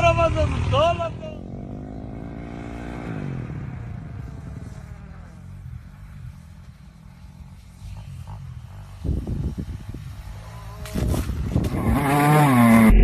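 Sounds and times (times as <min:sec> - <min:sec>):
motorcycle passing by: 0:00.0 - 0:13.0.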